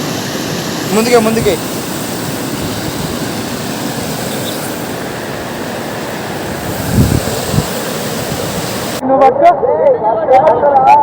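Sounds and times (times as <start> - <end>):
waterfall roaring: 0.0 - 9.0.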